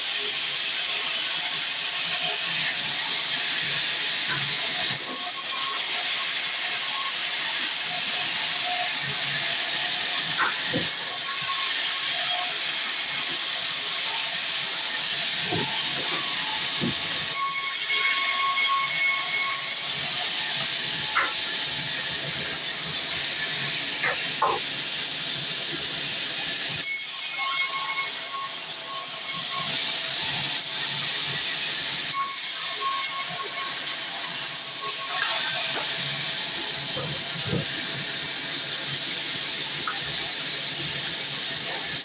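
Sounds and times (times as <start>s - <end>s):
band saw cutting wood: 0.0s - 42.0s.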